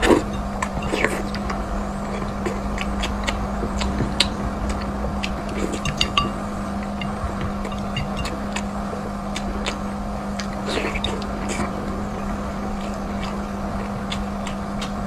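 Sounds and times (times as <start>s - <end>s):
low hum: 0.0s - 15.0s
person chewing food: 0.0s - 15.0s.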